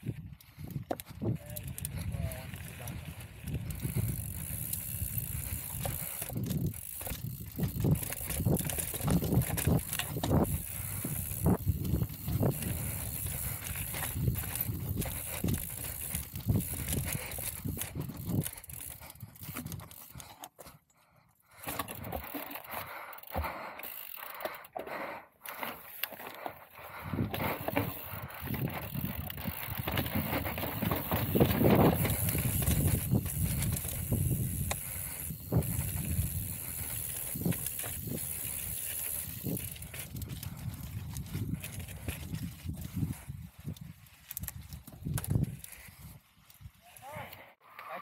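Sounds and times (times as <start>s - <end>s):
bike tyres on dirt trail: 0.0s - 48.0s
bike knocking and rattling: 0.1s - 20.8s, 21.5s - 46.7s.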